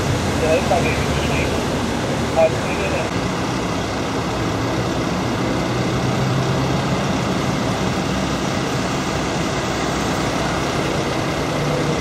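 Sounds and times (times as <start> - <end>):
heavy engine hum: 0.0 - 12.0
traffic roar: 0.0 - 12.0.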